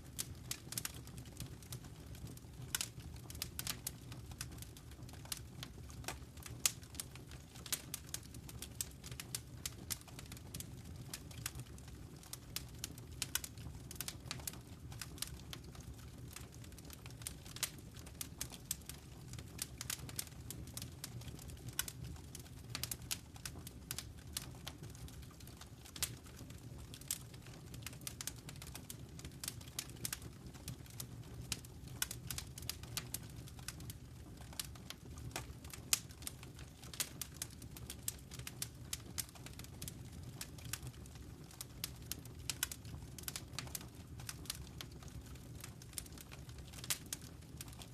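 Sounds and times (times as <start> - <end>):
fire crackling and popping: 0.0 - 47.9
low rumble of burning: 0.0 - 47.9.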